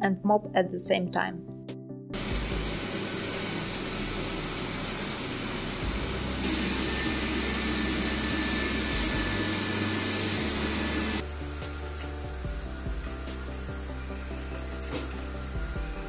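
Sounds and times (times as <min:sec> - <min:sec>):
robot vacuum fan: 0:02.2 - 0:16.0.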